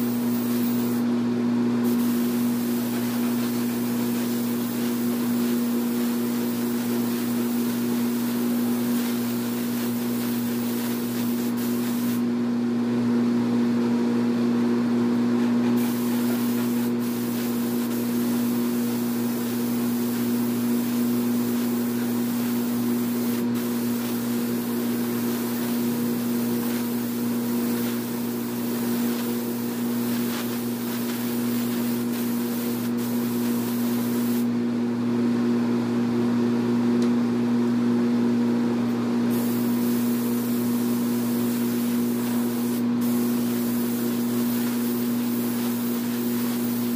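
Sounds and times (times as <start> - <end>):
paint spray gun hissing: 0.0 - 1.1, 1.8 - 12.2, 15.8 - 34.5, 39.3 - 46.9
low machine hum: 0.0 - 46.9.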